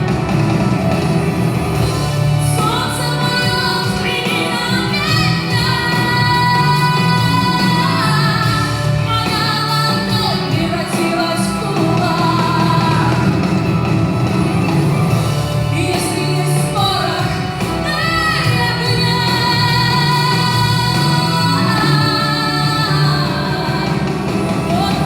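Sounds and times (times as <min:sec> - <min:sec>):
instrumental backing music: 0:00.0 - 0:25.0
woman singing: 0:00.8 - 0:25.0.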